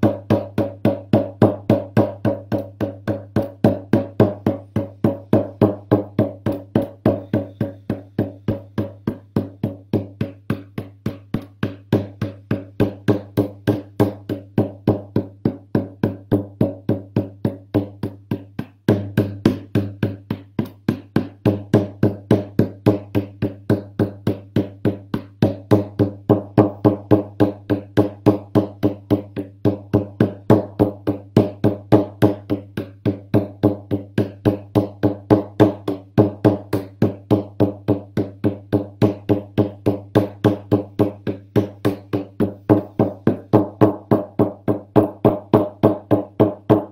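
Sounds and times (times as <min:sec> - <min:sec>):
frame drum booming beat: 0:00.0 - 0:46.9.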